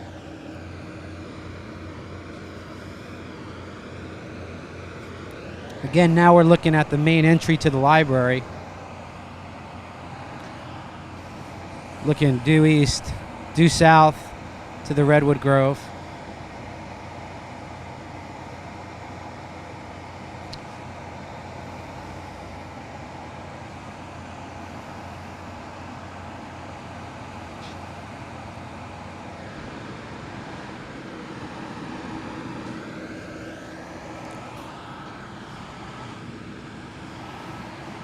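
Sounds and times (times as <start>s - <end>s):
construction machinery engine rumble: 0.0s - 38.0s
passing engine: 0.0s - 38.0s.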